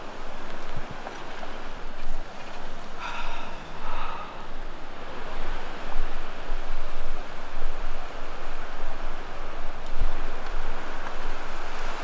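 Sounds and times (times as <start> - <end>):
surf waves breaking: 0.0 - 12.0
wind rumble on microphone: 0.0 - 12.0.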